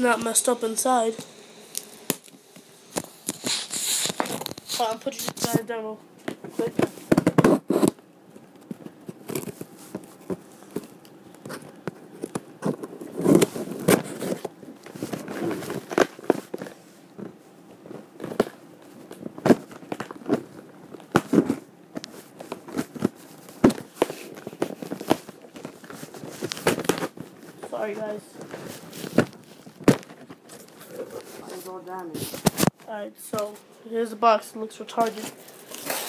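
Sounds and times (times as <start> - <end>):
package rustling: 1.7 - 5.6, 8.6 - 32.8, 35.0 - 36.0.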